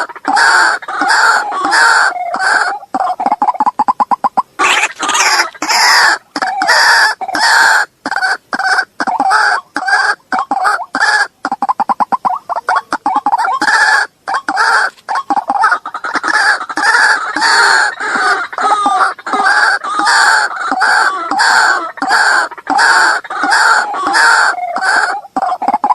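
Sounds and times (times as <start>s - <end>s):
waterhen calls: 0.0s - 25.9s.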